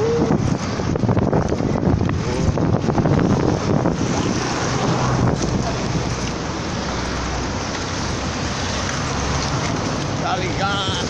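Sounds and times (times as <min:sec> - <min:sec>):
road rumble: 0:00.0 - 0:11.0
wind buffeting microphone: 0:00.0 - 0:11.0.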